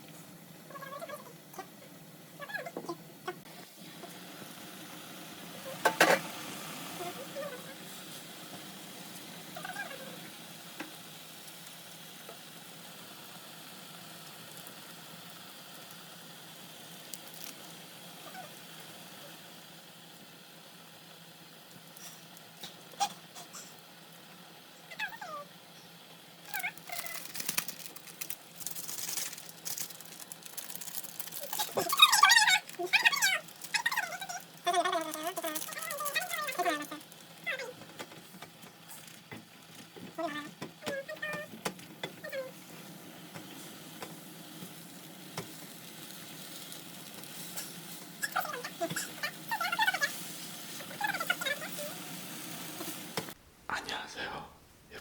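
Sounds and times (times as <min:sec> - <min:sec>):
food sizzling in a frying pan: 0:02.5 - 0:53.4.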